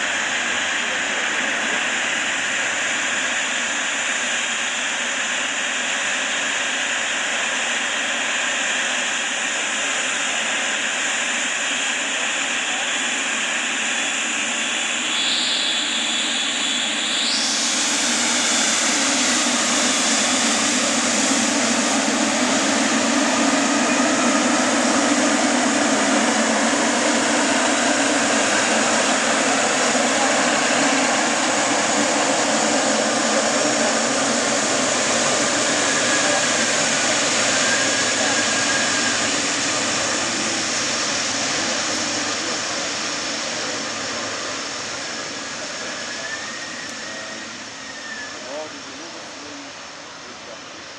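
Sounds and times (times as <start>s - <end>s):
high engine whine: 0.0s - 50.9s
jet engines running: 0.0s - 50.9s.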